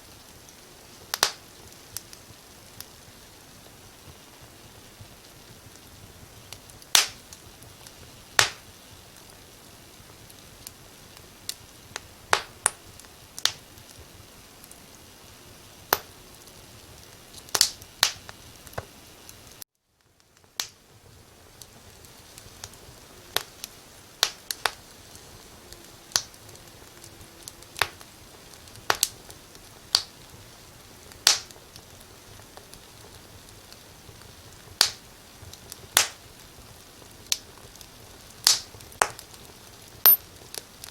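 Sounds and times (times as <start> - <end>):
faint steady hiss: 0.0 - 40.9
firewood crackling: 0.0 - 40.9.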